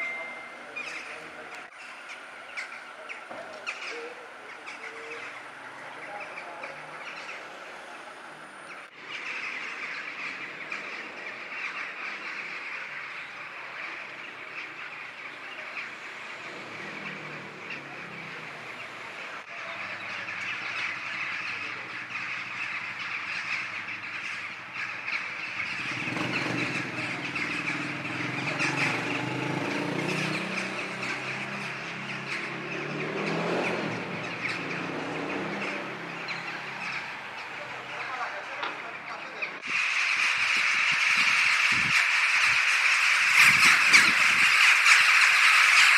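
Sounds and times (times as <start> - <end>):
flock of birds chattering: 0.0 - 45.9.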